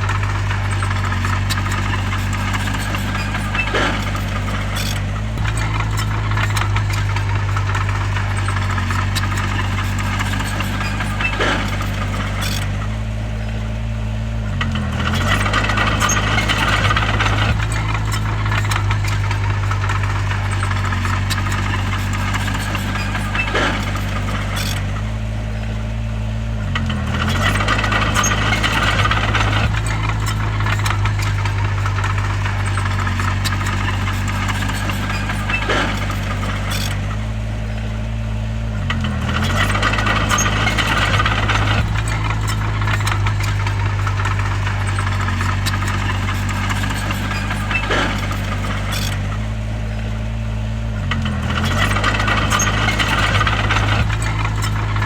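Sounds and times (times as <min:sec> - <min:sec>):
bulldozer diesel engine: 0:00.0 - 0:55.0
rattling and clanking: 0:00.0 - 0:55.0.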